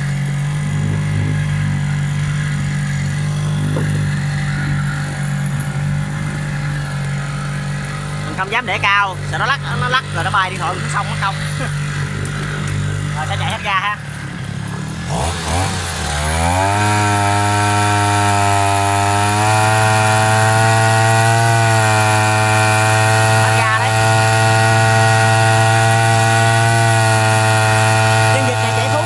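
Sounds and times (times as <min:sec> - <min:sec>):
two-stroke boat engine revving: 0:00.0 - 0:29.0.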